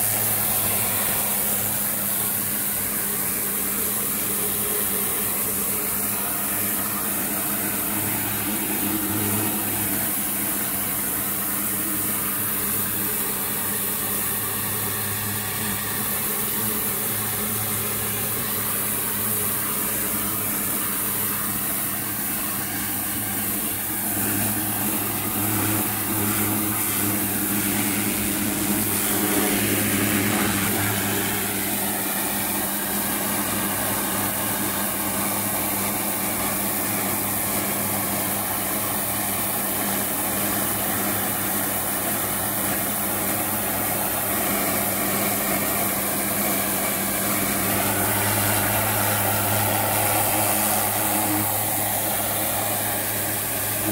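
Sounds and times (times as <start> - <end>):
pressure washer spraying: 0.0 - 53.9.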